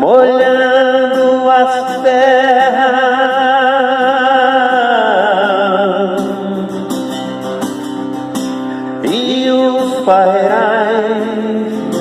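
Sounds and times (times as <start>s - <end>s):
acoustic guitar: 0.0s - 12.0s
person singing with vibrato: 0.0s - 12.0s.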